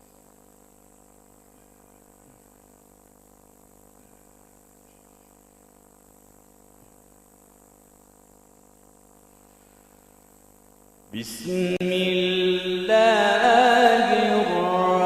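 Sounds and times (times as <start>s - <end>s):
faint electrical hum and hiss: 0.0s - 15.0s
thin high whine: 0.0s - 15.0s.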